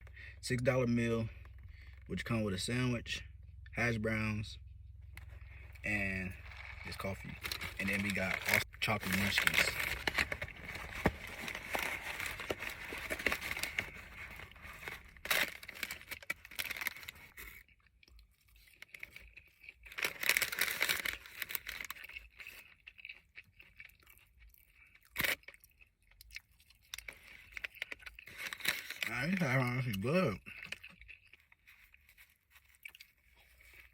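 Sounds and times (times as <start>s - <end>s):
food packaging crinkling and tearing: 5.2s - 33.9s.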